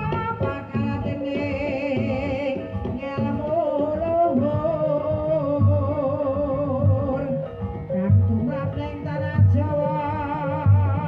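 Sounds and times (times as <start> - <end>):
hand-drum strokes: 0.0 - 11.0
person singing: 0.0 - 11.0.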